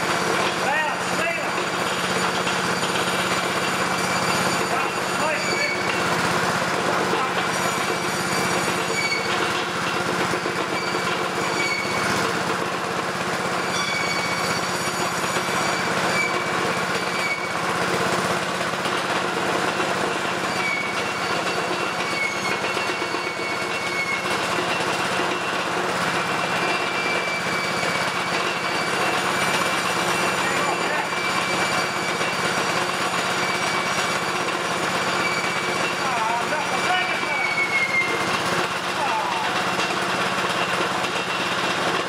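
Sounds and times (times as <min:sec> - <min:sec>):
petrol engine running: 0:00.0 - 0:42.0.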